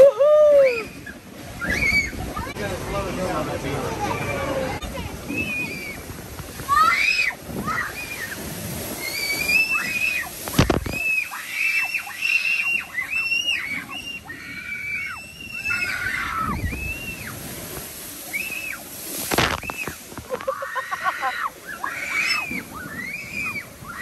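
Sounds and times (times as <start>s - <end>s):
people screaming and whooping: 0.0s - 2.6s, 4.0s - 17.5s, 18.2s - 24.0s
loud water splashes: 0.0s - 24.0s
rushing sloshing water: 0.0s - 24.0s.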